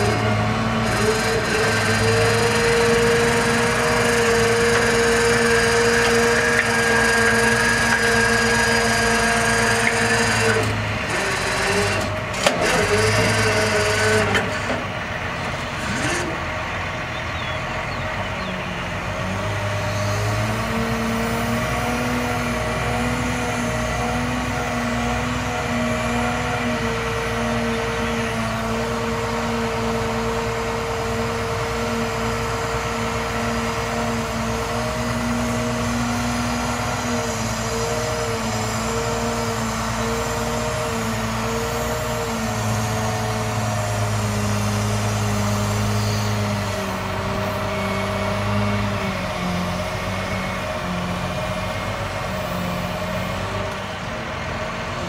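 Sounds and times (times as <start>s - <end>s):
diesel truck engine droning: 0.0s - 55.0s.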